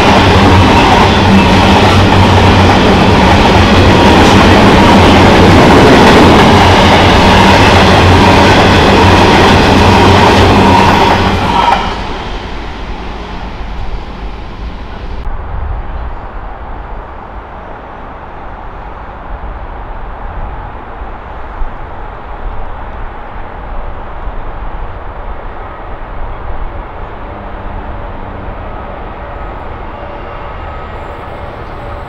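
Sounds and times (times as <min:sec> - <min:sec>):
train wagons rumbling on rails: 0:00.0 - 0:32.0.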